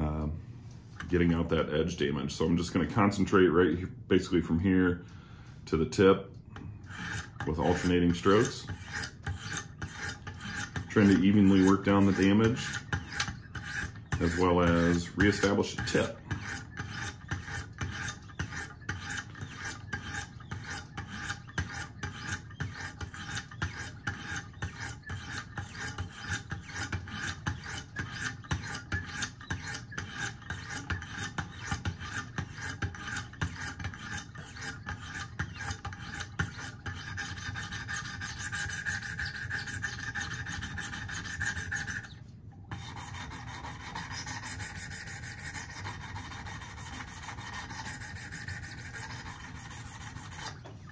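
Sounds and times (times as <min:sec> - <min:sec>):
sharpening stones rasping on knife: 0:06.8 - 0:50.7.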